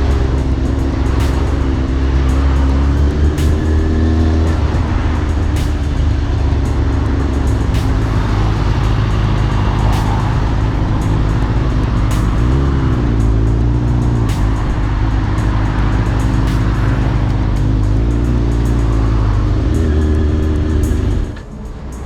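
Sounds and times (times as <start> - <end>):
music: 0.0 - 22.0
vehicle engine droning: 0.0 - 22.0.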